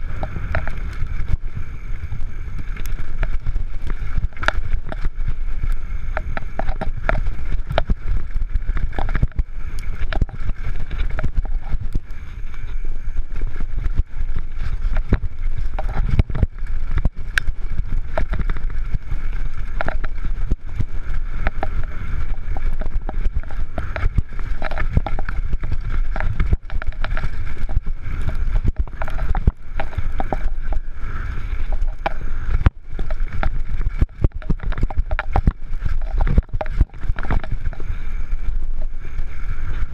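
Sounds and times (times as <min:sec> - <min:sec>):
bike clattering over bumps: 0:00.0 - 0:38.0
bike tyres on dirt: 0:00.0 - 0:39.9
wind rumble on microphone: 0:00.0 - 0:39.9.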